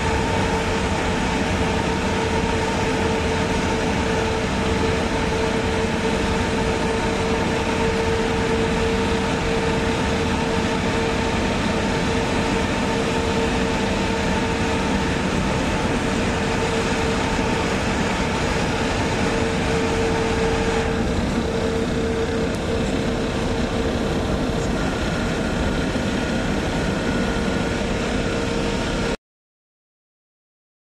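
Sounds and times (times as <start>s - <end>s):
steady low hum: 0.0s - 29.2s
vehicle road and engine noise: 0.0s - 29.2s.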